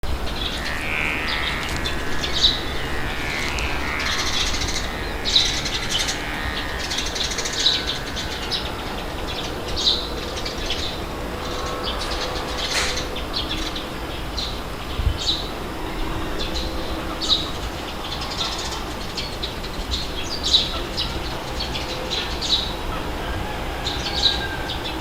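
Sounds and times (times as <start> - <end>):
low rumble of wind: 0.0 - 25.0
songbirds chirping: 0.0 - 25.0.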